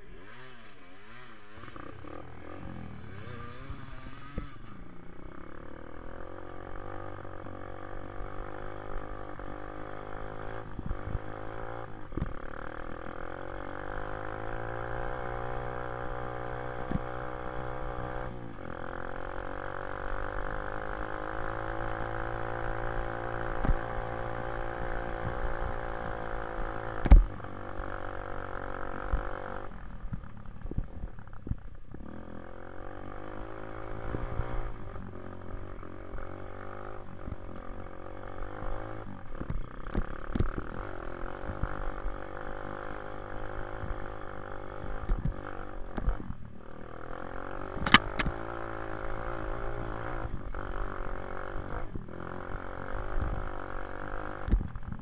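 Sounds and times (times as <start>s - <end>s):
dirt bike engine: 0.0s - 55.0s.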